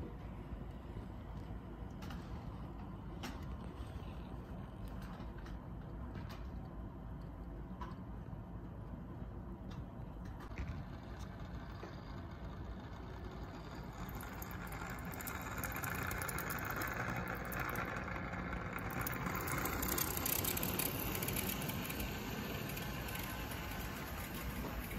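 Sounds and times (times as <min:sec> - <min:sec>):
model trains running on track: 0:00.0 - 0:07.1, 0:09.5 - 0:24.9.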